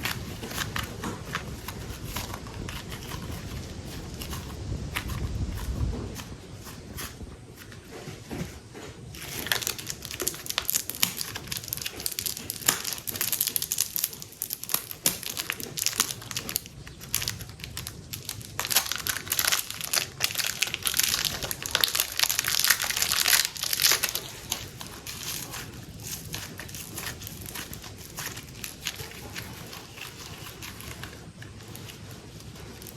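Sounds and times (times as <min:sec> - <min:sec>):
plastic packaging crinkling: 0:00.0 - 0:32.9.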